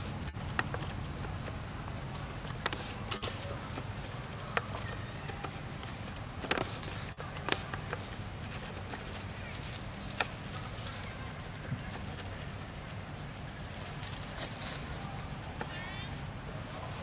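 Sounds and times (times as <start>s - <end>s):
footsteps in dry leaves: 0.0s - 12.7s, 13.7s - 15.3s
steady low hum: 0.0s - 17.0s.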